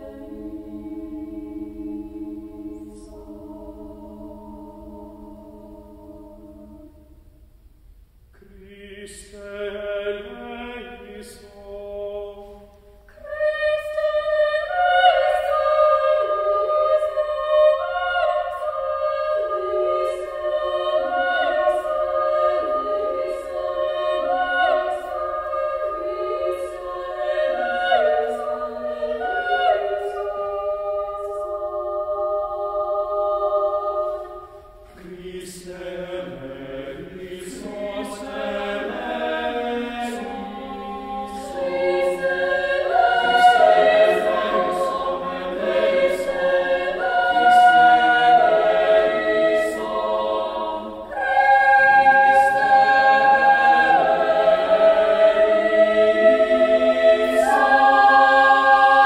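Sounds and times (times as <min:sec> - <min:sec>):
choir singing: 0:00.0 - 0:07.2, 0:08.4 - 0:59.0.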